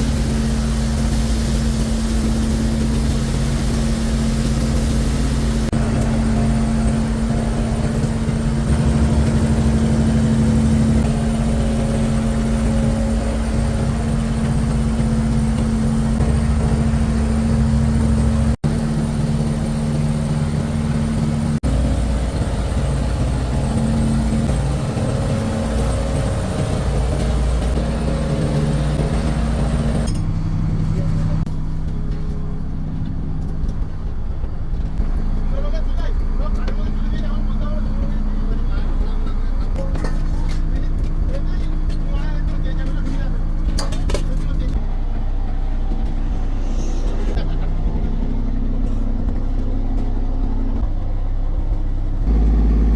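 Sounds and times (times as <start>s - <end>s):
boat engine droning: 0.0s - 52.9s.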